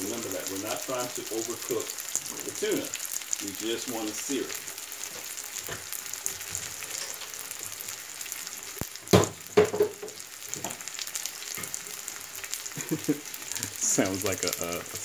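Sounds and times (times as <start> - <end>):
fish searing in frying pan: 0.0 - 15.0.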